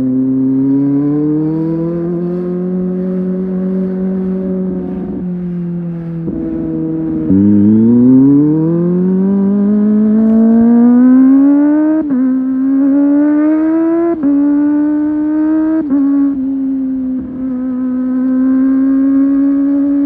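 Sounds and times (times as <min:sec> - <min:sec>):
motorcycle engine accelerating hard: 0:00.0 - 0:20.0.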